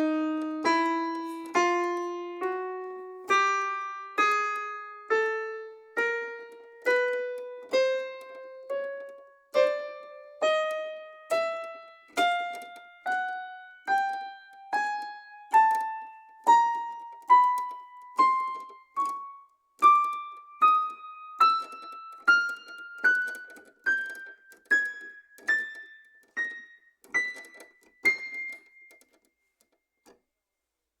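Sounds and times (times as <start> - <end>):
piano single notes: 0.0 - 29.2.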